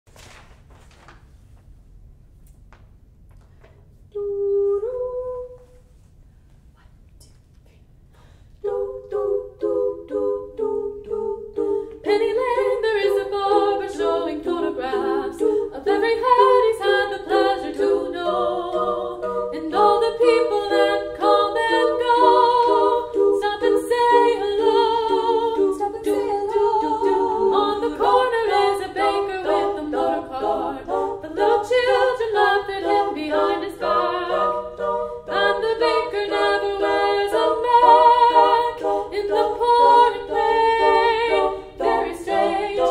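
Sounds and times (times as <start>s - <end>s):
women singing a cappella: 4.1s - 5.9s, 8.6s - 42.9s.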